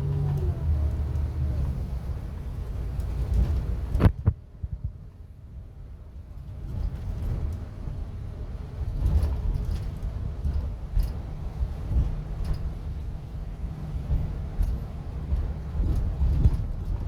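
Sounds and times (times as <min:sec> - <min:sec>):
light rattles and clicks: 0:00.0 - 0:05.1, 0:06.2 - 0:17.0
coach engine and road rumble: 0:00.0 - 0:17.0.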